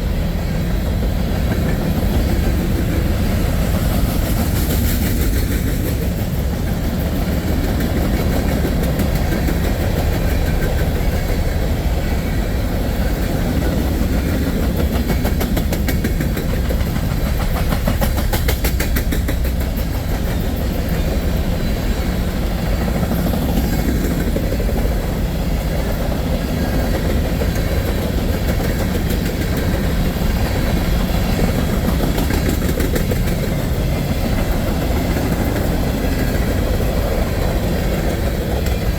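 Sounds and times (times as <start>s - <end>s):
train cars rumbling on rails: 0.0s - 38.9s
train wheel clicks: 0.0s - 38.9s.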